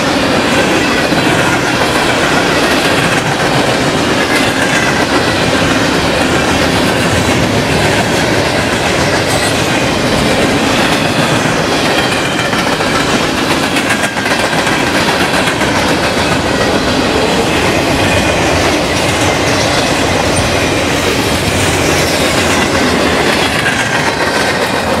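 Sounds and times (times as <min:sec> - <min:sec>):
clickety-clack over rail joints: 0:00.0 - 0:25.0
steel wheels rumbling on rail: 0:00.0 - 0:25.0.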